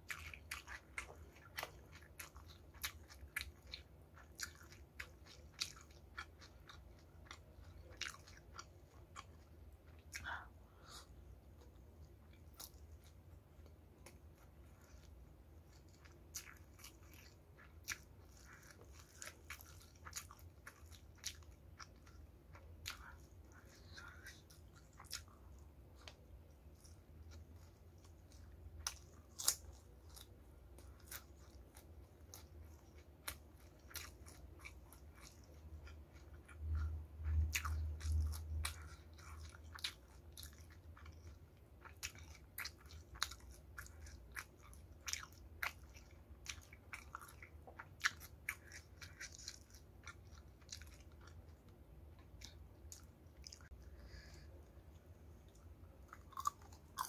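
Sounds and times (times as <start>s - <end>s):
chewing crispy fried chicken: 0.0s - 57.0s.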